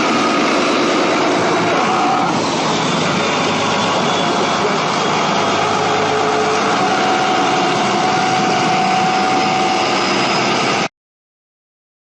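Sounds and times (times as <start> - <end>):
boat engine droning: 0.0 - 10.9.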